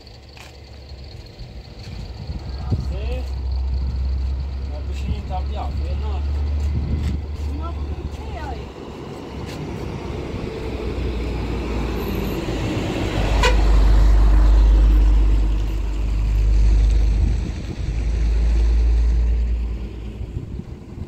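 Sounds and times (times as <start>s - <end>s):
wind buffeting microphone: 1.4s - 15.3s, 15.9s - 21.0s.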